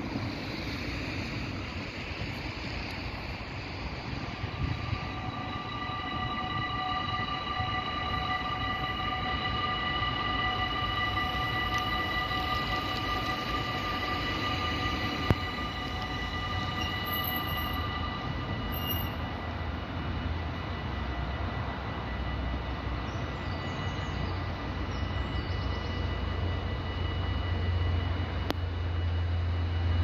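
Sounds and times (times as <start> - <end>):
level crossing warning bells: 0.1 - 30.0.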